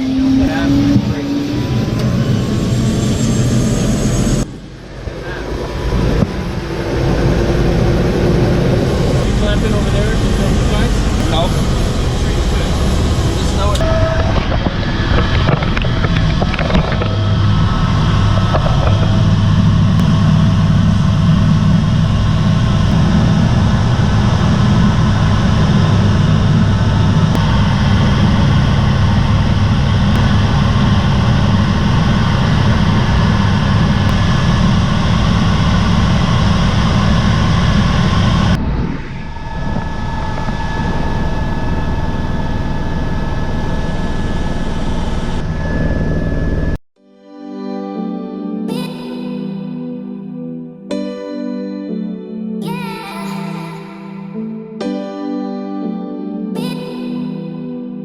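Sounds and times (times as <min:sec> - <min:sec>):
helicopter engine and rotor drone: 0:00.0 - 0:46.8.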